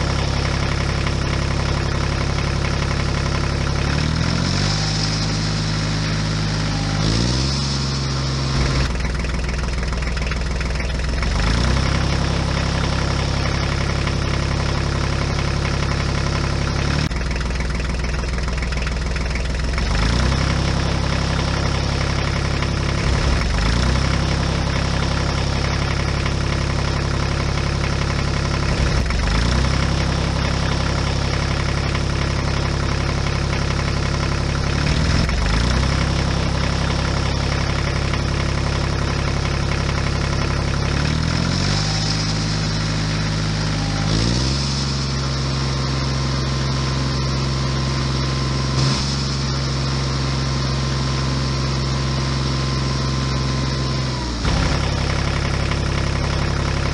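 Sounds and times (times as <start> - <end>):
diesel tractor engine idling: 0.0 - 56.9.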